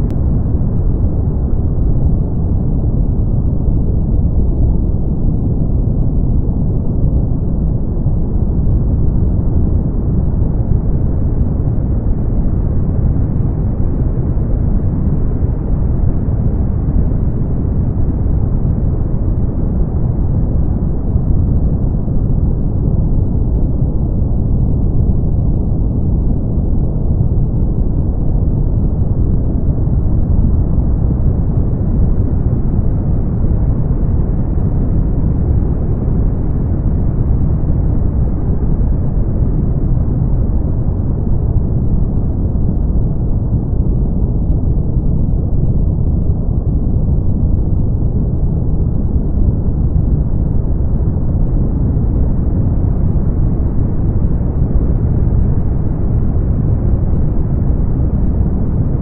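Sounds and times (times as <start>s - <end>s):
brown noise: 0.0s - 59.0s.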